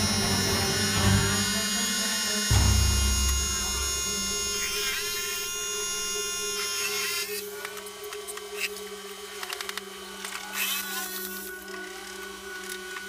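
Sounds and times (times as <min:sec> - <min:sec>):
low machine hum: 0:00.0 - 0:13.0
music: 0:00.0 - 0:13.0.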